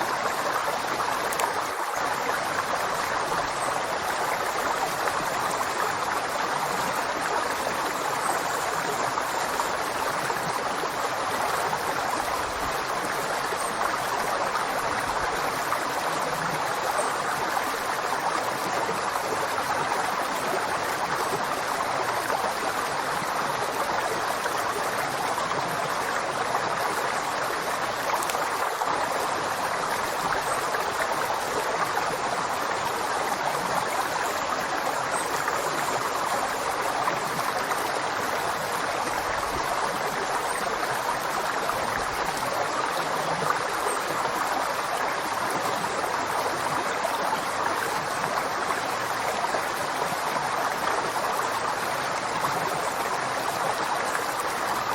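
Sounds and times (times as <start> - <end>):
river water flowing over rocks: 0.0 - 54.9.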